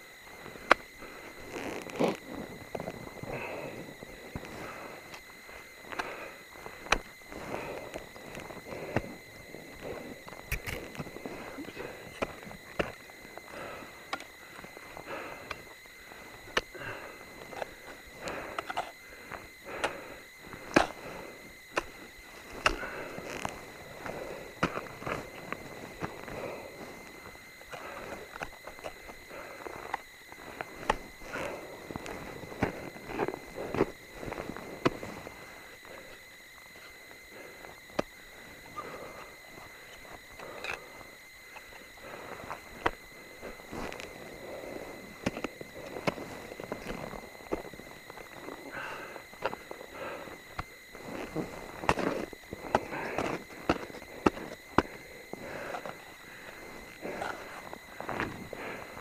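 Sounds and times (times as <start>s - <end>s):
crunching snow: 0.0s - 59.0s.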